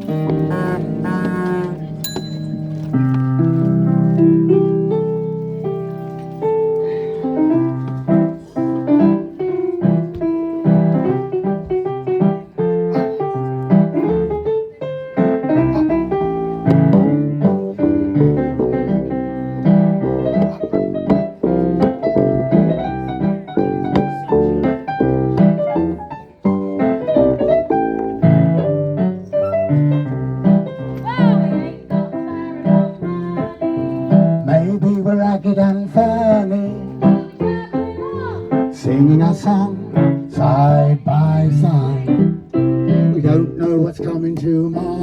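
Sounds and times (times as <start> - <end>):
piano playing: 0.0 - 45.0.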